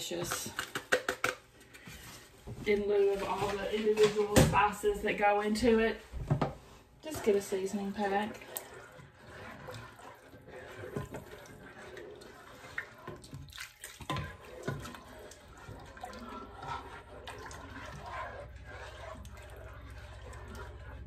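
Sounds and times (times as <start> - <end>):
liquid swishing in pot: 1.8 - 21.0.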